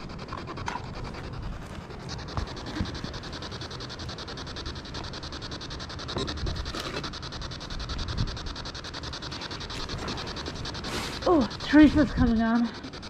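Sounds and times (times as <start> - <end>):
pulsing radio static hiss: 0.0 - 13.0.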